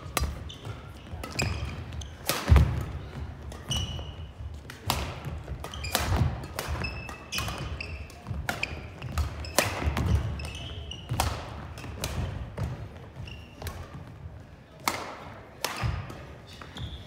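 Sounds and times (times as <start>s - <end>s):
racket hitting shuttlecock: 0.0s - 14.1s, 14.8s - 16.8s
sneakers squeaking: 0.0s - 15.0s, 15.6s - 17.0s.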